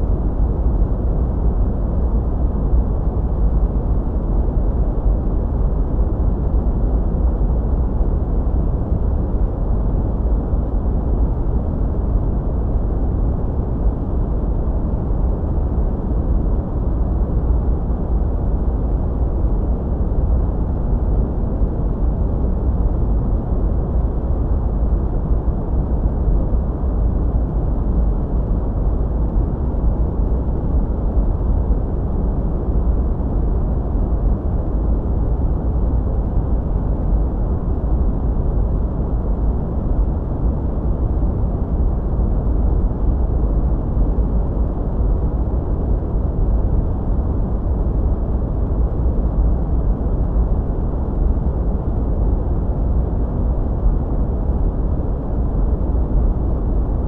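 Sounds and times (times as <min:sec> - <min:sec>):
deep white noise hiss: 0:00.0 - 0:57.0.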